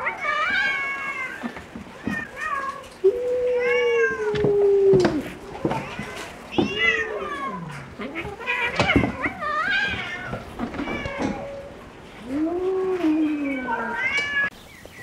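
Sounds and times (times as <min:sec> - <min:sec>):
kittens meowing: 0:00.0 - 0:14.5.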